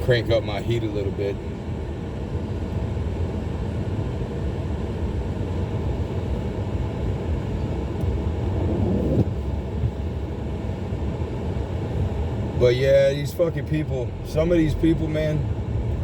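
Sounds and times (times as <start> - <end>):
vehicle rumbling on snowy road: 0.0 - 16.0.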